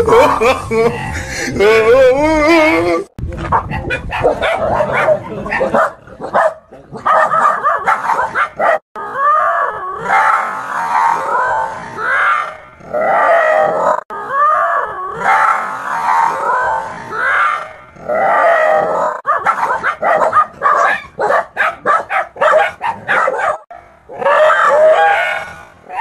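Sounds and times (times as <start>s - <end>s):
dogs barking and growling: 3.4s - 26.0s.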